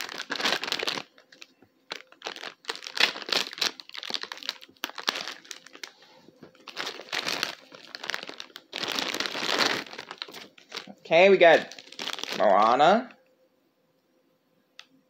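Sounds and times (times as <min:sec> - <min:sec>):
plastic bag crinkling and tearing: 0:00.0 - 0:12.8.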